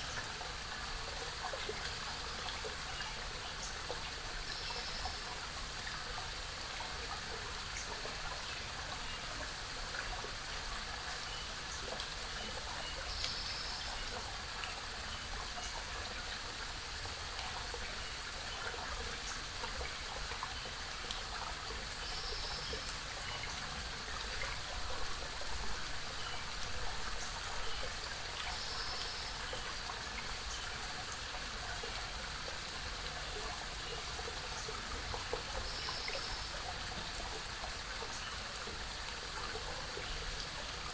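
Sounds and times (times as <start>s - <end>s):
waterfall and creek running: 0.0s - 40.9s.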